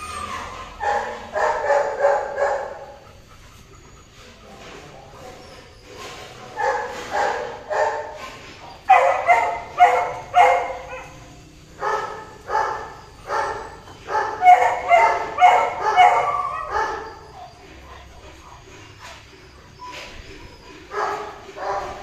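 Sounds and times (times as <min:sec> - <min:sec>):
dog yelping barks: 0:00.0 - 0:04.1, 0:06.5 - 0:22.0.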